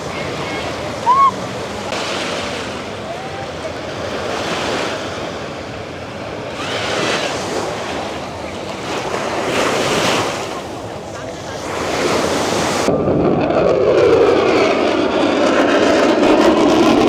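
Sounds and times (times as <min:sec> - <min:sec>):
surf breaking on a beach: 0:00.0 - 0:17.0
wind buffeting microphone: 0:00.0 - 0:17.0.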